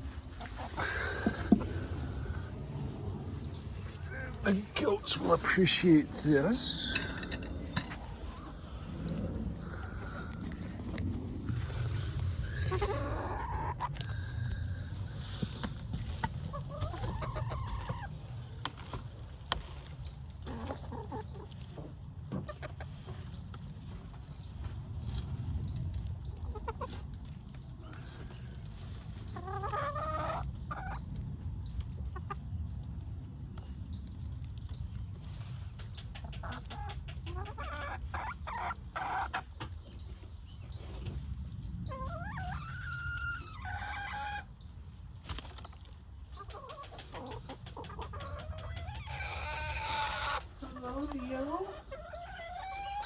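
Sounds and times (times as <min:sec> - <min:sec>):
hens clucking: 0:00.0 - 0:19.1, 0:20.4 - 0:23.5, 0:25.7 - 0:32.8, 0:35.7 - 0:40.1, 0:41.8 - 0:44.8, 0:45.4 - 0:53.0.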